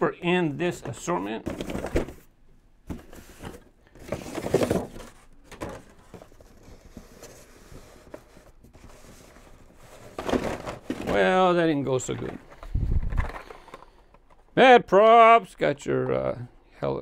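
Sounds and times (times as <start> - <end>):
cardboard and plastic rustling: 0.6 - 14.5.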